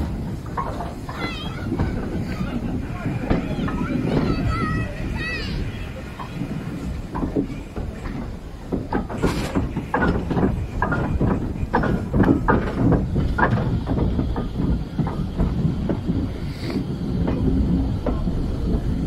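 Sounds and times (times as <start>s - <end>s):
steam hiss: 0.0s - 19.0s
steam locomotive exhaust beats: 0.0s - 19.0s
wheels rumbling on rails: 0.0s - 19.0s.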